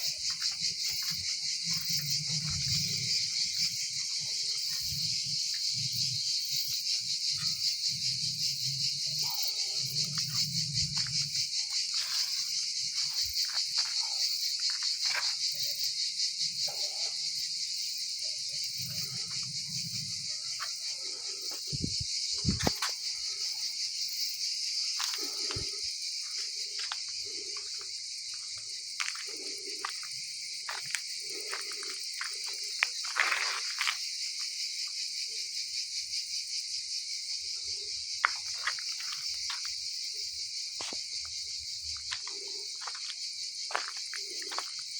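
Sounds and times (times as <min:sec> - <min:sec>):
insect chorus chirring: 0:00.0 - 0:44.9.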